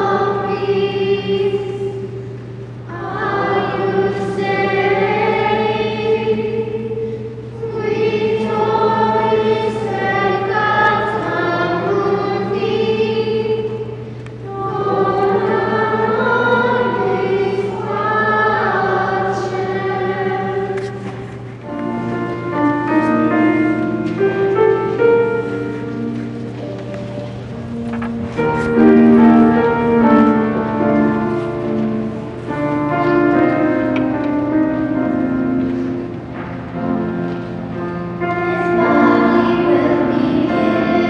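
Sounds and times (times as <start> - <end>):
low hum: 0.0 - 40.9
children's choir singing: 0.0 - 41.0.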